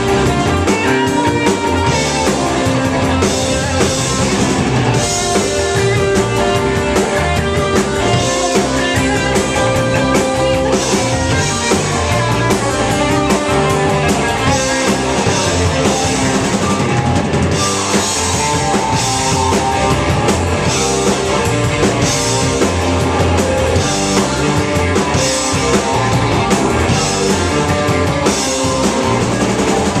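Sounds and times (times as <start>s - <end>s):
drum kit beat: 0.0s - 30.0s
guitar: 0.0s - 30.0s
rock band playing live: 0.0s - 30.0s.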